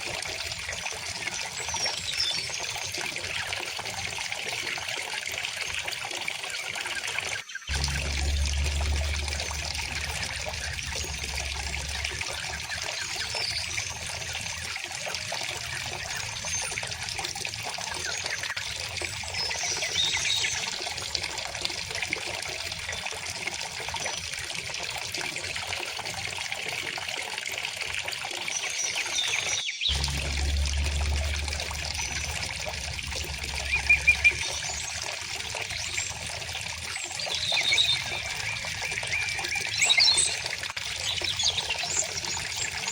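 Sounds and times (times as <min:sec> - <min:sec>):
river trickling and babbling: 0:00.0 - 0:42.9.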